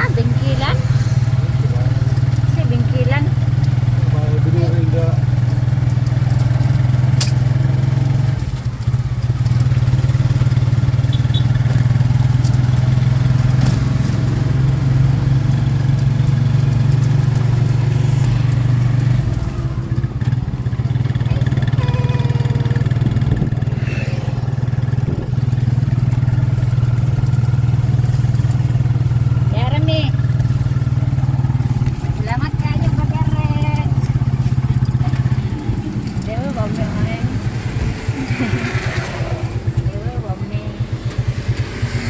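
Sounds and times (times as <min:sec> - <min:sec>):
motorcycle engine droning: 0:00.0 - 0:42.0.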